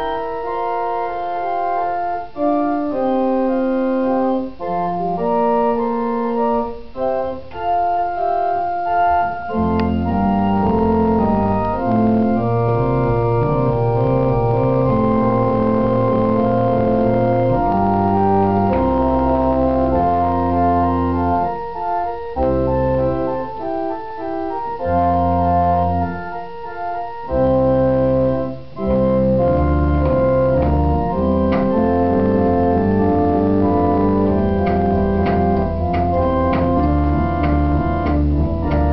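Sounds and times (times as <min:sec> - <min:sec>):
organ chords: 0:00.0 - 0:38.9
organ pedal bass line: 0:00.0 - 0:38.9.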